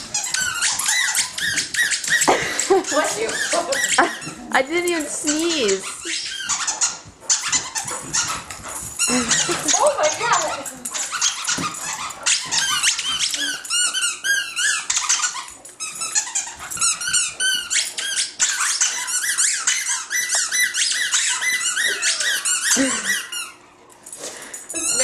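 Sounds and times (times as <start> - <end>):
squeaky dog toy squeaking: 0.0 - 23.6, 24.8 - 25.0.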